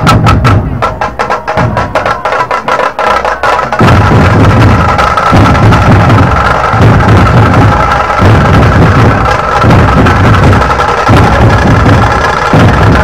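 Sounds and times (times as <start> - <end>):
drumming with deep drum beats: 0.0 - 13.0.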